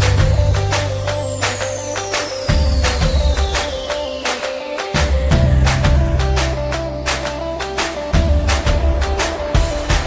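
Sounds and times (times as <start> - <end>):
bass line: 0.0 - 3.8, 5.0 - 10.0
upbeat music with drum beat: 0.0 - 10.0.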